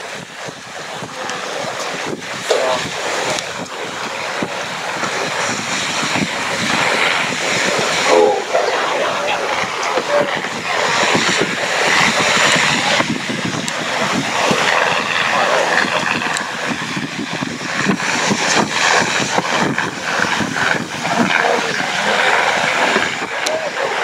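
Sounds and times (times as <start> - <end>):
steam train rushing: 0.0 - 24.0
wind buffeting microphone: 0.0 - 24.0.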